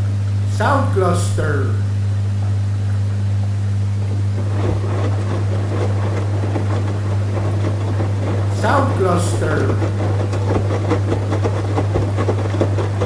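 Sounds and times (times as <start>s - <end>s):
washing machine motor hum: 0.0s - 13.0s
water and laundry sloshing: 1.9s - 13.0s.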